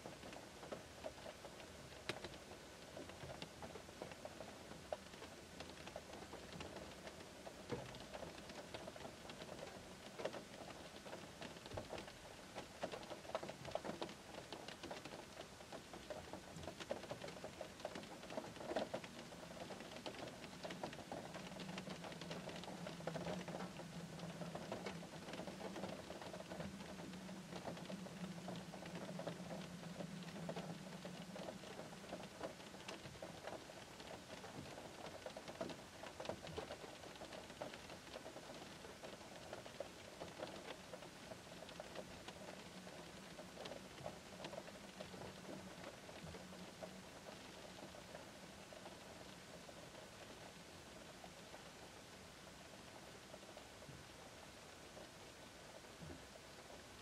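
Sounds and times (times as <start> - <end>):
rain pattering on a car: 0.0 - 57.0.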